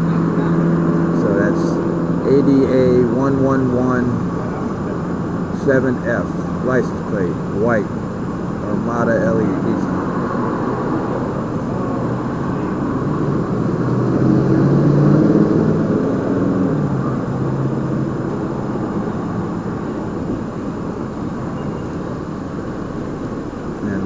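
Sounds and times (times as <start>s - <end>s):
vehicle engine and road noise: 0.0s - 24.0s.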